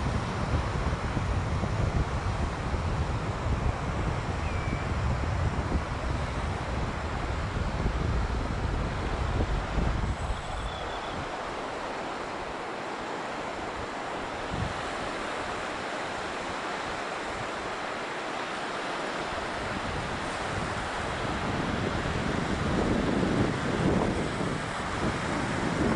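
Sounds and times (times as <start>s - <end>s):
wind buffeting microphone: 0.0s - 12.7s, 13.5s - 17.8s, 19.3s - 25.9s
small waves on sandy shore: 0.0s - 25.9s.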